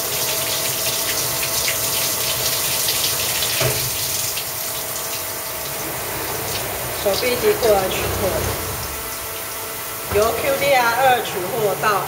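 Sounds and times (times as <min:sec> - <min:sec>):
water rushing and splashing: 0:00.0 - 0:10.7.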